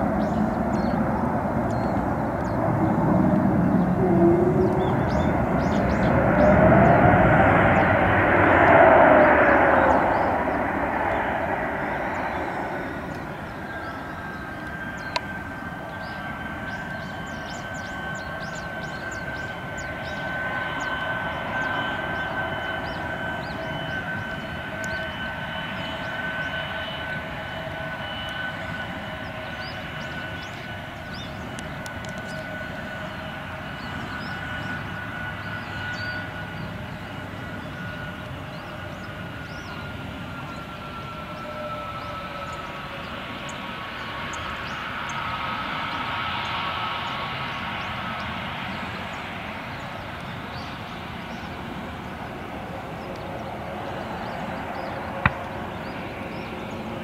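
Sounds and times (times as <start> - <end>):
jet engine high whine: 0.0 - 57.0
jet engines roaring: 0.0 - 57.0.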